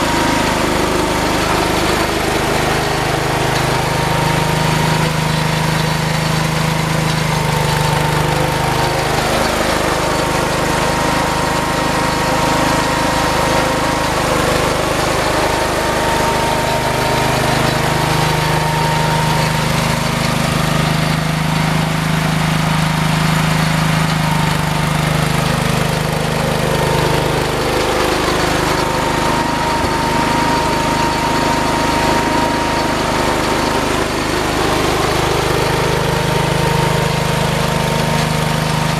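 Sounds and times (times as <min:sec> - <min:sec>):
engine running under load: 0:00.0 - 0:38.9.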